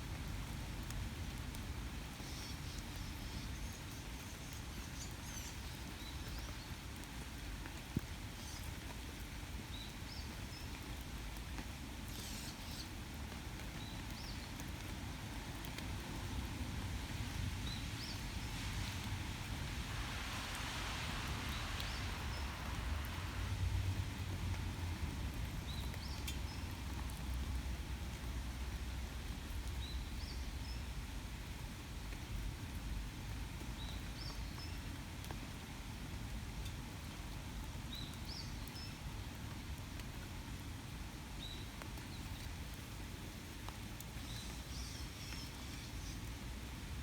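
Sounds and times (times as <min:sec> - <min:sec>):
faint rain patter: 0:00.0 - 0:47.0.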